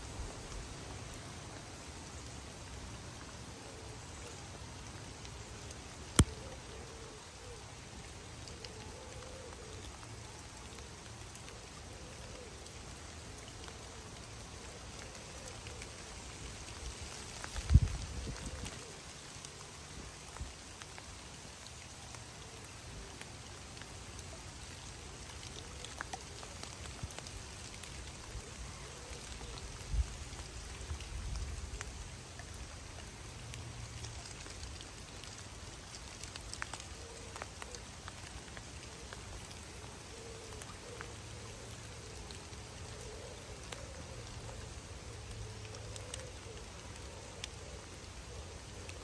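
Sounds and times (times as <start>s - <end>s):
rain falling on river: 0.0s - 49.0s.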